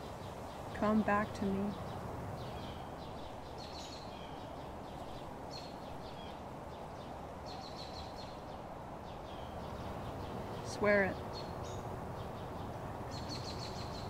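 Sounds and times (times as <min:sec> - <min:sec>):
birds chirping: 0:00.0 - 0:14.0
low outdoor background noise: 0:00.0 - 0:14.0.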